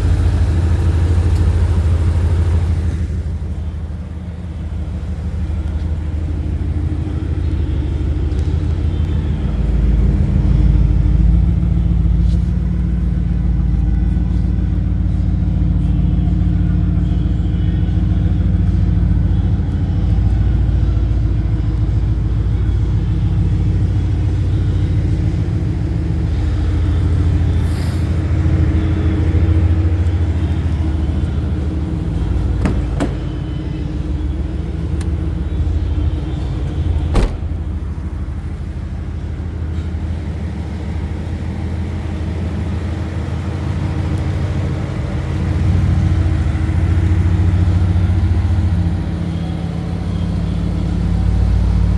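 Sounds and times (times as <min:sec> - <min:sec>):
car engine exhaust rumble: 0:00.0 - 0:51.9.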